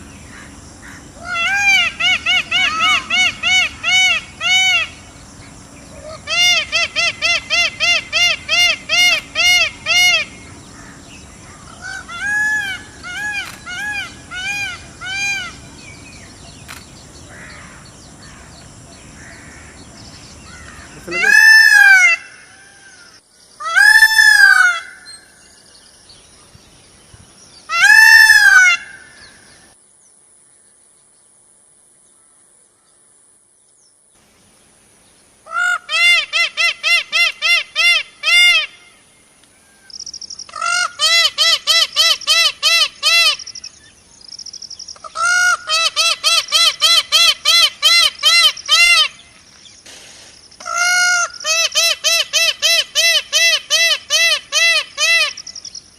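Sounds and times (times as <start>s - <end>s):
peacock calling: 0.0s - 25.6s, 27.7s - 29.8s, 35.4s - 49.4s, 50.6s - 55.9s.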